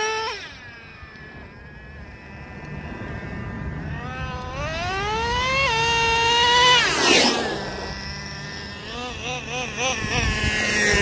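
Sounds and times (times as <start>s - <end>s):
rc truck engine accelerating: 0.0s - 11.0s.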